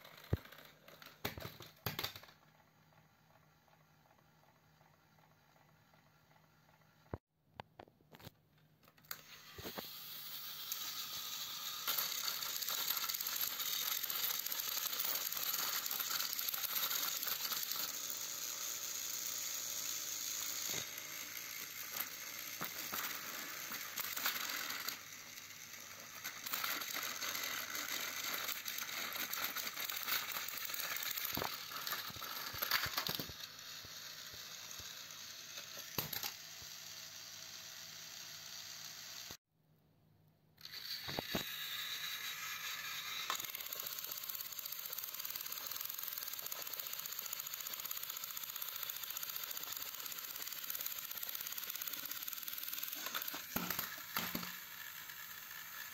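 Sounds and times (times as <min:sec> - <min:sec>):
toy train motors whirring: 0:00.0 - 0:07.2, 0:08.1 - 0:39.4, 0:40.6 - 0:55.9.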